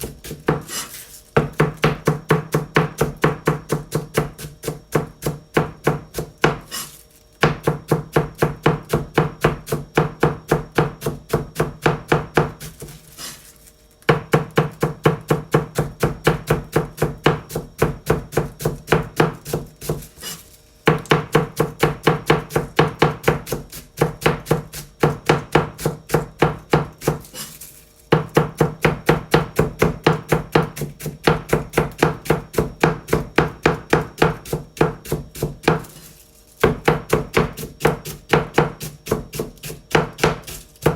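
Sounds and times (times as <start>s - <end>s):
knife chopping cabbage on board: 0.0s - 13.5s, 14.1s - 40.9s.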